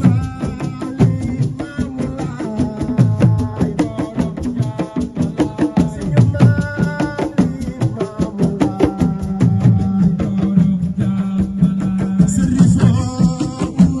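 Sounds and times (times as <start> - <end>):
fast drum and percussion rhythm: 0.0 - 14.0.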